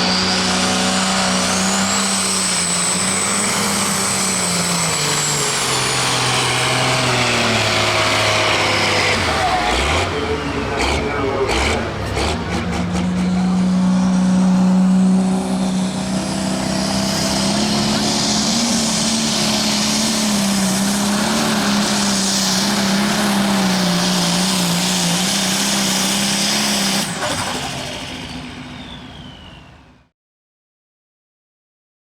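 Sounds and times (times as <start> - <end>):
tractor engine revving under load: 0.0 - 29.7.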